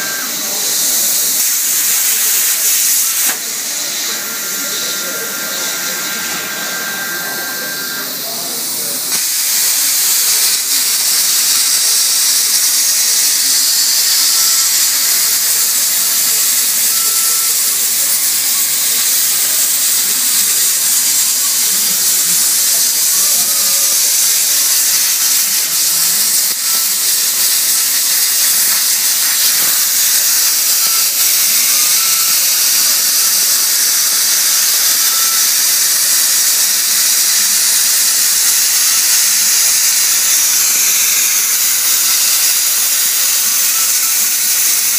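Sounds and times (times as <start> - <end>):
plasma cutter hissing: 0.0 - 44.9.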